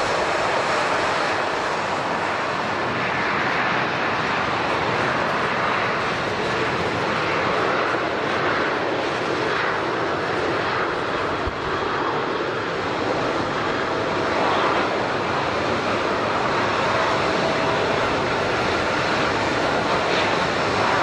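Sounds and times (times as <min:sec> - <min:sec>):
airliner engines running: 0:00.0 - 0:21.0.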